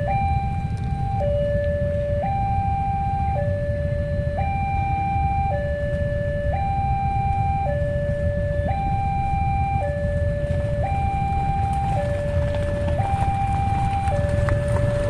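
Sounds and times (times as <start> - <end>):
low rumble: 0.0 - 15.0
two-tone electronic warning alarm: 0.0 - 15.0.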